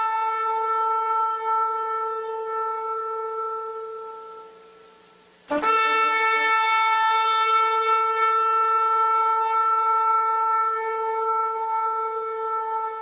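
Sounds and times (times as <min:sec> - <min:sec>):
shofar blast: 0:00.0 - 0:13.0.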